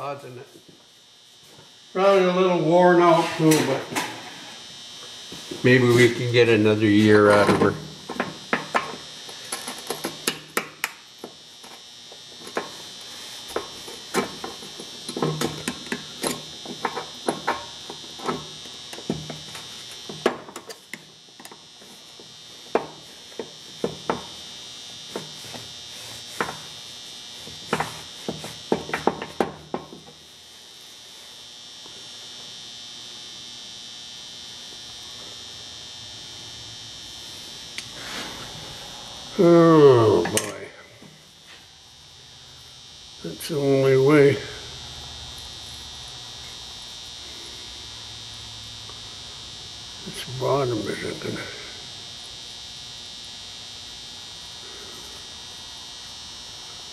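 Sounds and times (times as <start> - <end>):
steady high-pitched hiss: 0.0 - 56.9.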